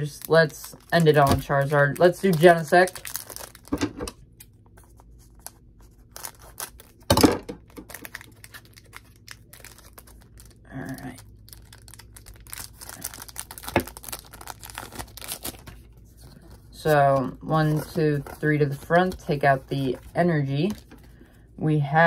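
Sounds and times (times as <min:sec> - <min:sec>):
foil pack crinkling and tearing: 0:00.0 - 0:03.9, 0:04.8 - 0:21.2.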